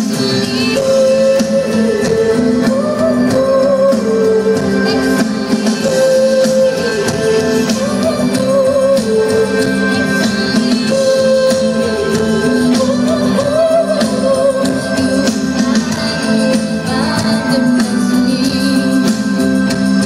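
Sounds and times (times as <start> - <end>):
live pop band playing: 0.0 - 20.0
woman singing: 0.0 - 20.0.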